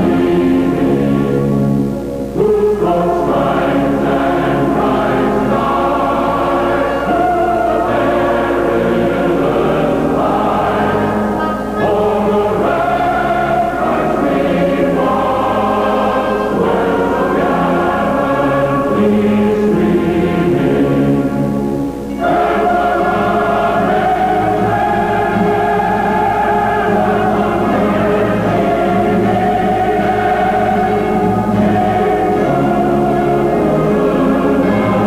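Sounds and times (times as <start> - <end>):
choir singing held chords: 0.0 - 35.0.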